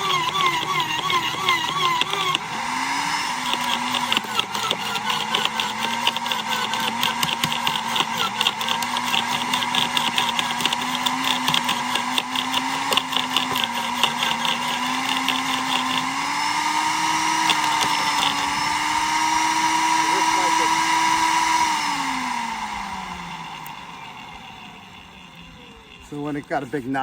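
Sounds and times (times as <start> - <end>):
electric motor humming: 0.0 - 27.0
wood chipper crackling branches: 0.0 - 27.0.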